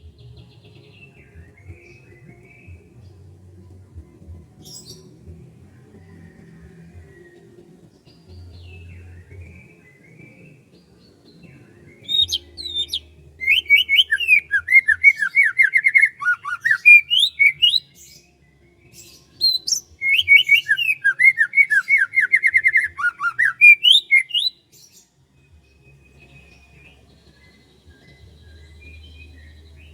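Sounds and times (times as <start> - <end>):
songbird singing: 0.0 - 29.9.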